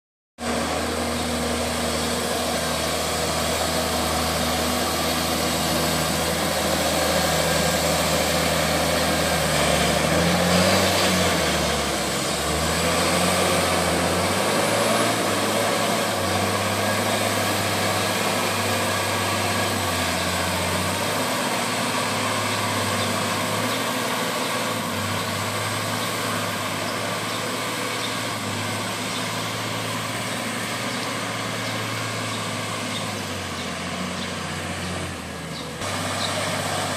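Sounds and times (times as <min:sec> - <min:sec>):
tractor diesel engine working: 0:00.4 - 0:36.9.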